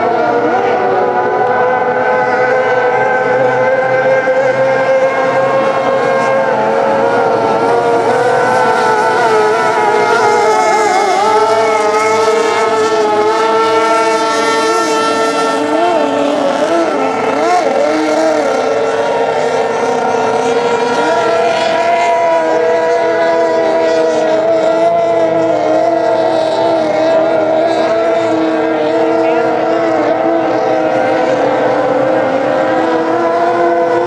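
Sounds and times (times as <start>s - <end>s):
racing outboard boat engines: 0.0s - 34.0s.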